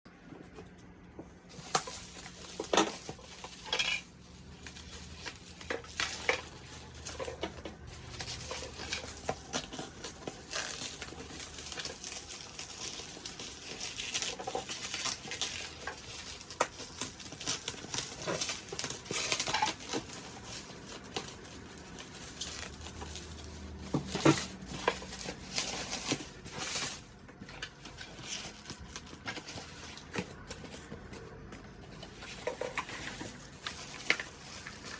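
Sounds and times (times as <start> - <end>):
packaging rustling and scraping: 0.1 - 34.9.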